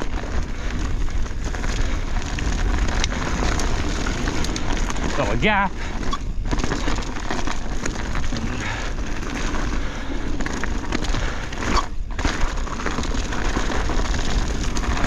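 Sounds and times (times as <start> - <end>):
bike drivetrain clatter: 0.0 - 15.0
tyres crunching over rock: 0.0 - 15.0
wind rumbling on microphone: 0.0 - 15.0.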